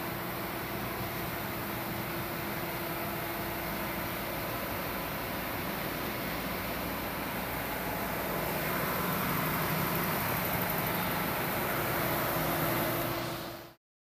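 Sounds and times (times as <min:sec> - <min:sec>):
engine-room machinery droning: 0:00.0 - 0:13.8.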